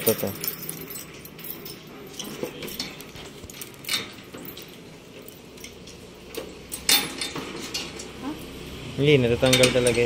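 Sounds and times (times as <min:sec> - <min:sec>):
keys jangling against padlock: 0:00.0 - 0:08.5.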